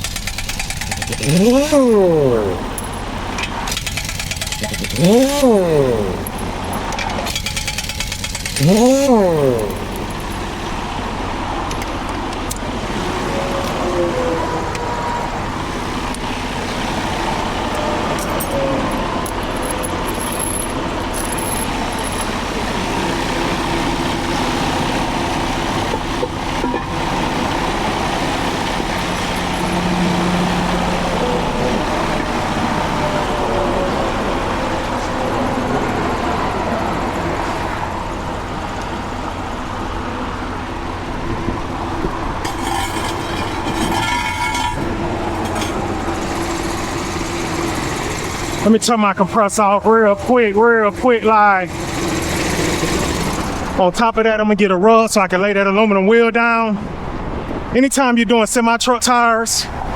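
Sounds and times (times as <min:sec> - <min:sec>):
highway traffic passing: 0:00.0 - 0:59.9.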